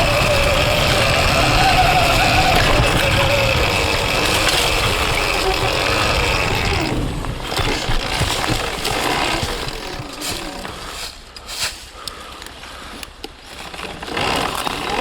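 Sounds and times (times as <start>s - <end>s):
electric dirt bike drivetrain whine: 0.0s - 11.2s, 13.4s - 15.0s
chain and suspension rattling: 0.0s - 11.8s, 13.4s - 15.0s.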